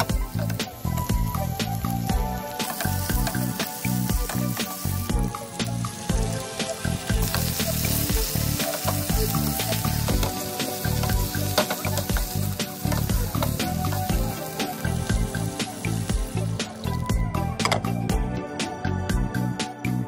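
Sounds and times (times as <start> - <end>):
chicken sizzling in hot oil: 0.0 - 17.7
background music with steady beat: 0.0 - 20.0.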